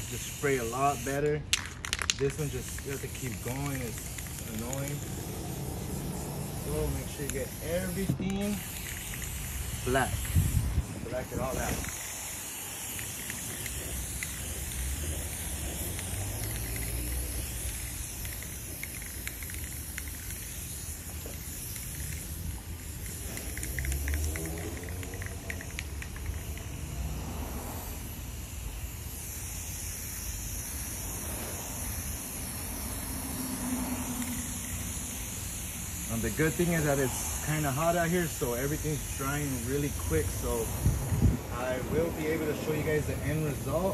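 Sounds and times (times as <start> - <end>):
aerosol spray can hissing: 0.0 - 43.9.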